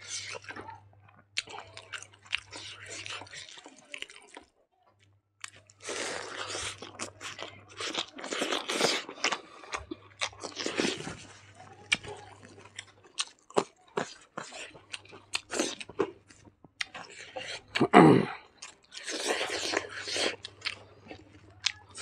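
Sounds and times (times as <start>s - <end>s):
man chewing with wet crunching: 0.0s - 22.0s.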